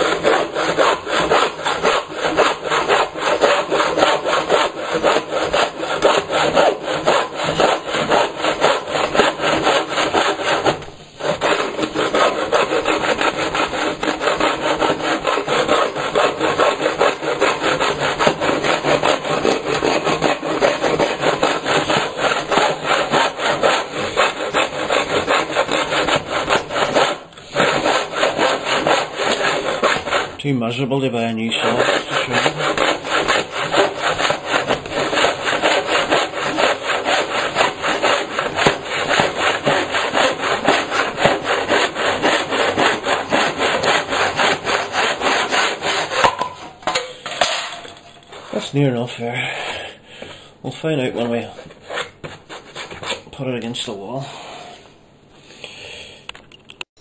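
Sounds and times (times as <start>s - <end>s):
handsaw cutting wood: 0.0s - 30.4s, 31.3s - 46.5s.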